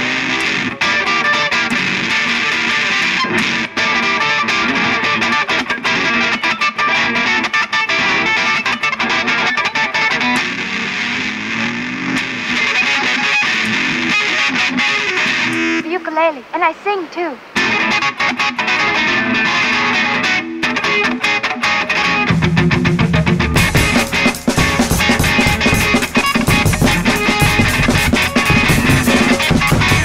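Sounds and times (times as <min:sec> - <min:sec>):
distorted ukulele strumming: 0:00.0 - 0:15.8, 0:17.6 - 0:30.0.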